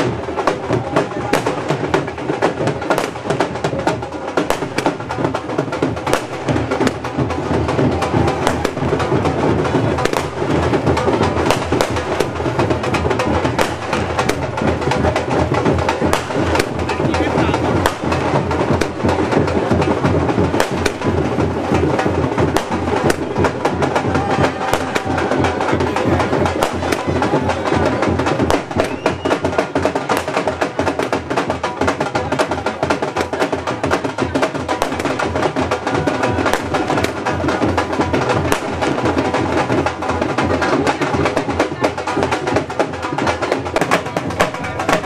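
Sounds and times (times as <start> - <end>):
fast heavy drumming music: 0.0 - 45.0.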